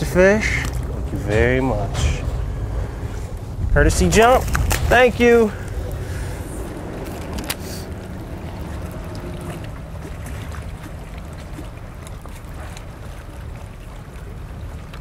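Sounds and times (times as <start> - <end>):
water lapping around boat: 0.0 - 15.0
wind: 0.0 - 15.0.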